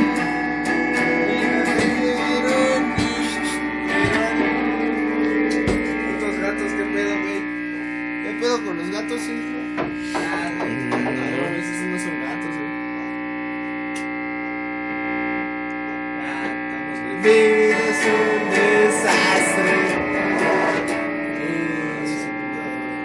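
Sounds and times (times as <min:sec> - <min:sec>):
loud jumble of sound: 0:00.0 - 0:23.0
steady electrical hum: 0:00.0 - 0:23.0.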